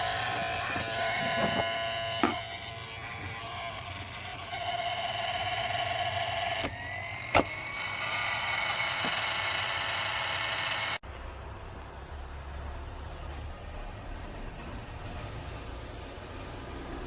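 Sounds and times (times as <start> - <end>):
cooling fan whine: 0.0 - 17.0.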